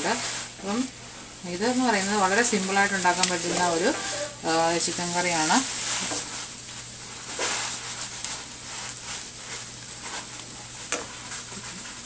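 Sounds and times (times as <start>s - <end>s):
masala sizzling in a frying pan: 0.0s - 12.0s.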